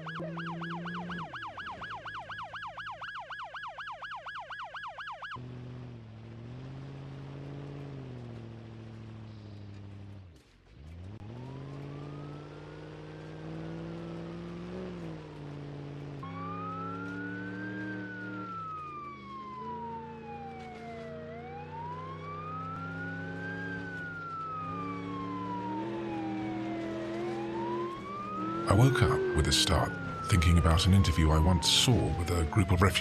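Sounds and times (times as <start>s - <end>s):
wailing siren: 0.0s - 5.8s, 11.0s - 33.0s.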